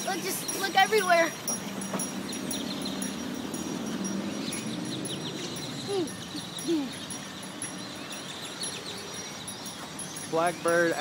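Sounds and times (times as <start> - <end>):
flock of birds chattering: 0.0 - 11.0.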